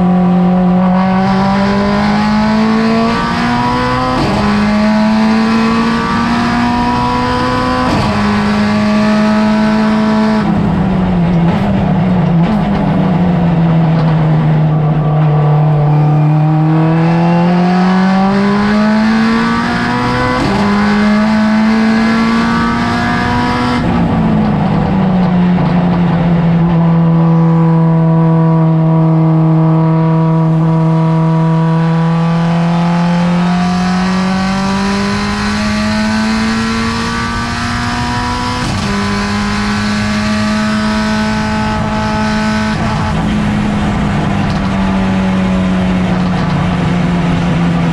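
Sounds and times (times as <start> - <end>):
race car engine revving: 0.0 - 47.9
road and tyre noise: 0.0 - 47.9.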